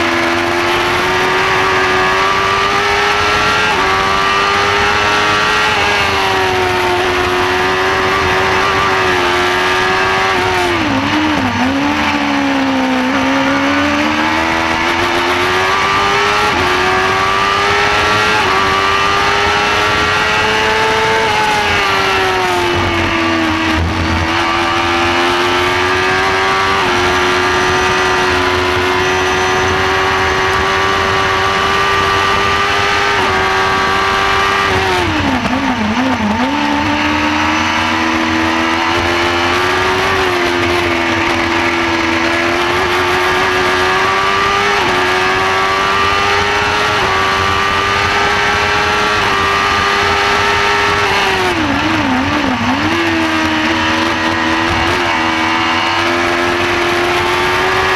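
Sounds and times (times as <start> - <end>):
racing engine at high revs: 0.0 - 57.9.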